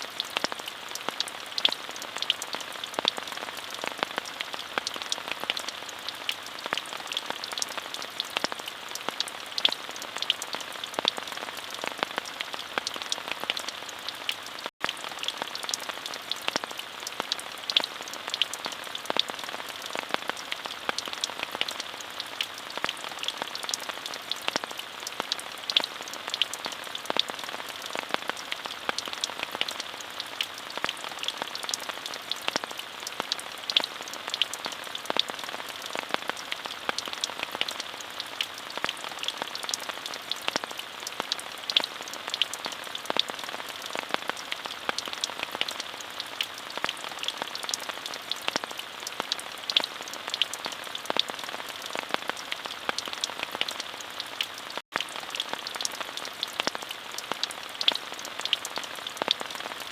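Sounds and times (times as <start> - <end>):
raindrops ticking: 0.0 - 59.9
steady rain hiss: 0.0 - 59.9.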